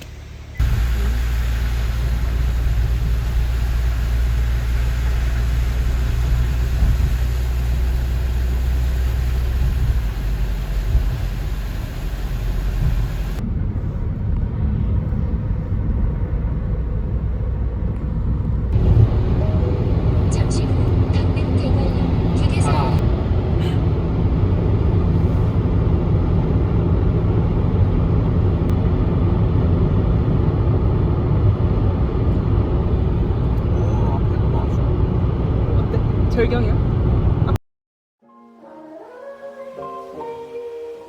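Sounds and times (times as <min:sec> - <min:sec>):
car road rumble: 0:00.0 - 0:37.6.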